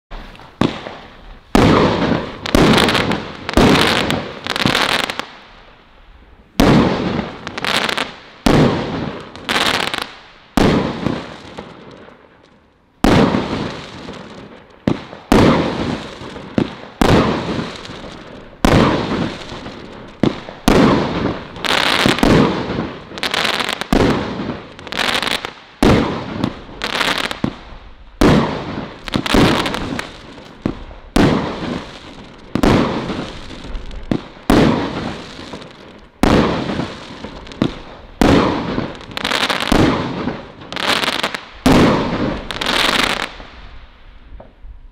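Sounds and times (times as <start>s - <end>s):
firework bangs: 0.1s - 5.8s, 6.4s - 44.9s
firework crackling and popping: 0.1s - 44.9s.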